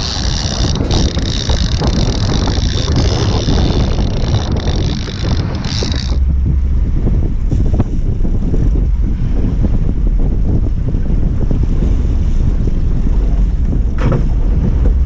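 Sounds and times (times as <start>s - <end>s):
sea noise: 0.0s - 15.0s
wind buffeting microphone: 0.0s - 15.0s.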